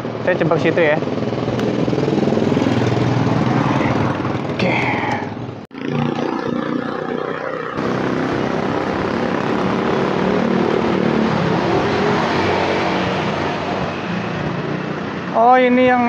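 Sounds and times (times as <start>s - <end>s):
motor engine droning: 0.8s - 15.3s.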